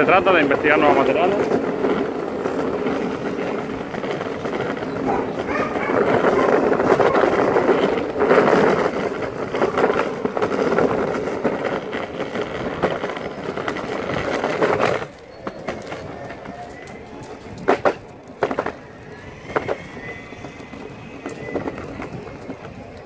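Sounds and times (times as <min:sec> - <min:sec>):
skateboard wheels rolling on pavement: 0:00.0 - 0:23.0.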